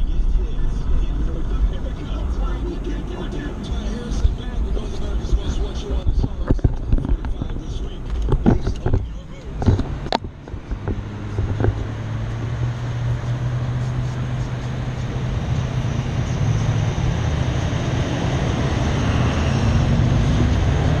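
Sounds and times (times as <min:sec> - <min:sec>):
vehicle engine idling: 0:00.0 - 0:18.1.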